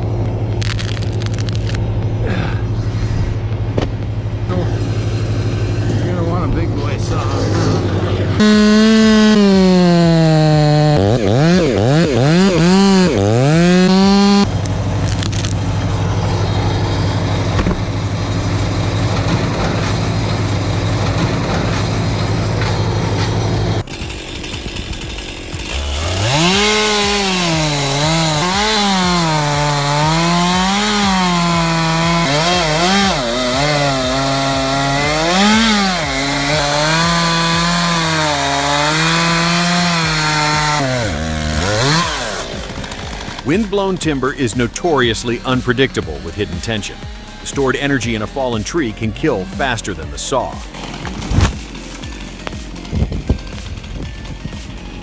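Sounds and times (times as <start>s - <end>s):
chainsaw cutting wood: 0.0s - 3.1s, 7.5s - 55.0s.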